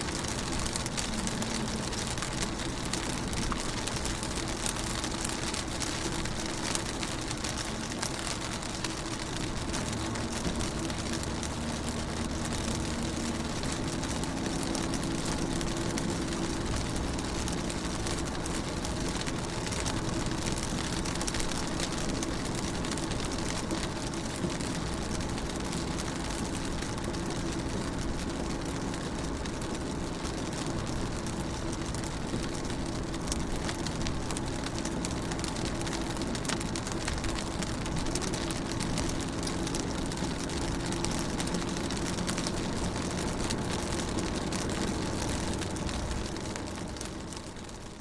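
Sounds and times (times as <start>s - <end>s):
rain pattering on a car: 0.0s - 48.0s.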